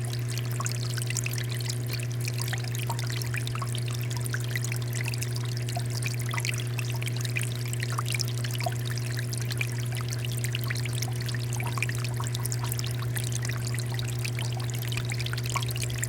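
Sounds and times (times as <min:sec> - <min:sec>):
steady low hum: 0:00.0 - 0:16.0
water fountain splashing: 0:00.0 - 0:16.0.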